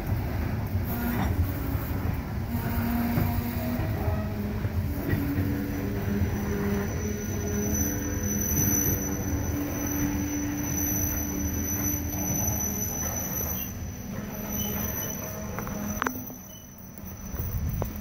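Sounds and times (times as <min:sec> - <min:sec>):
train wheels rumbling on rails: 0:00.0 - 0:18.0
faint wheel squeal: 0:02.6 - 0:18.0.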